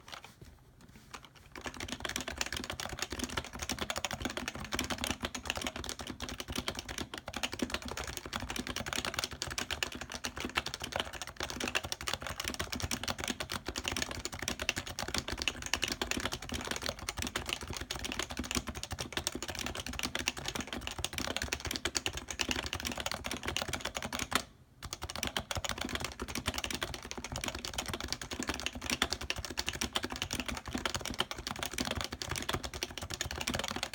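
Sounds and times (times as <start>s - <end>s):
fast keyboard typing: 1.1s - 33.9s.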